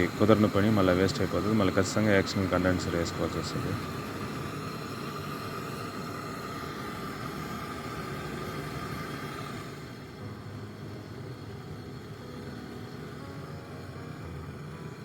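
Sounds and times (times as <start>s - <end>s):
steady hiss with high whistle: 0.0s - 15.0s.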